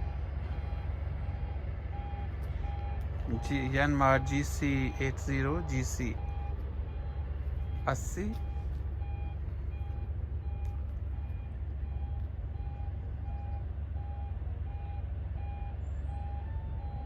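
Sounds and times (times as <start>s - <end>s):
low engine rumble: 0.0s - 17.0s
reversing alarm beeping: 0.0s - 17.0s.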